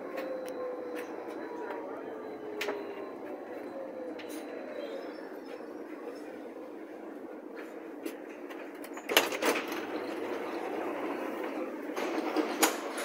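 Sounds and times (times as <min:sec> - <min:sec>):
train rattling: 0:00.0 - 0:13.0
train rumble from inside: 0:00.0 - 0:13.0.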